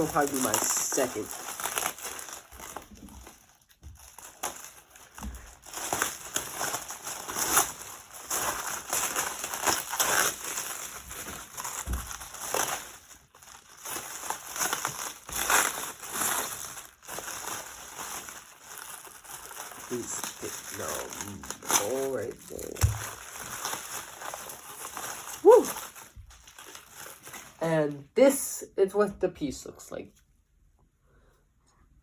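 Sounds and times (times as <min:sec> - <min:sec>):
packaging crinkling and rustling: 0:00.0 - 0:27.7.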